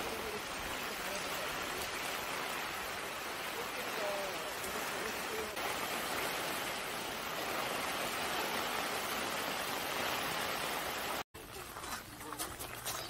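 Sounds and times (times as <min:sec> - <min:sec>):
heavy rain: 0:00.0 - 0:11.3.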